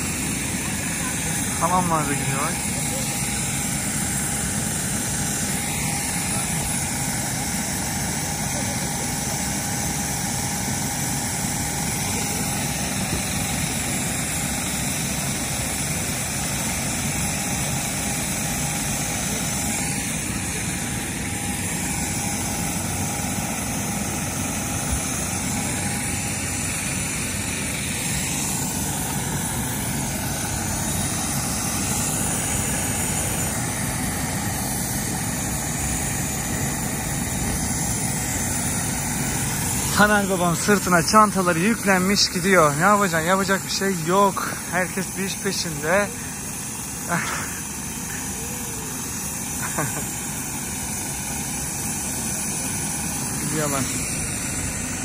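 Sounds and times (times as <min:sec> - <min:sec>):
airport ambient noise: 0:00.0 - 0:55.0.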